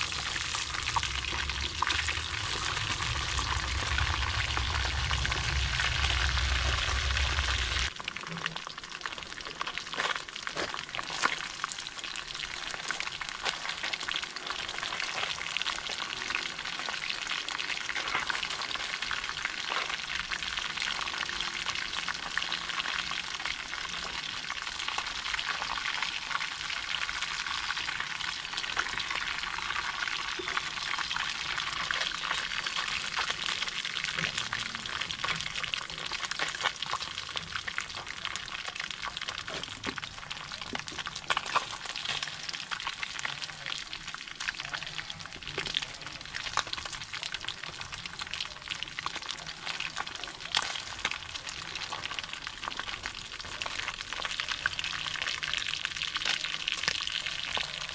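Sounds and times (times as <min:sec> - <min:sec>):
fish frying in hot oil: 0:00.0 - 0:57.9.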